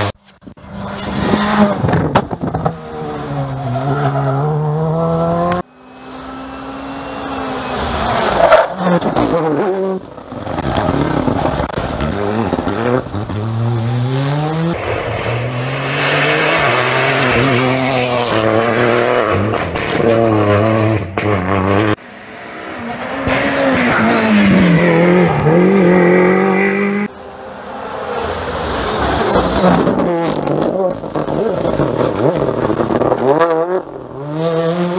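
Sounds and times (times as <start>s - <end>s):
cars passing by: 0.0s - 34.9s
rally car engines revving hard: 0.0s - 34.9s.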